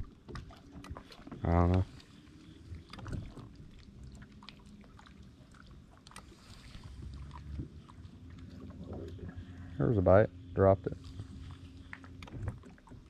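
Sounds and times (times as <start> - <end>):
faint boat motor hum: 0.0 - 13.0.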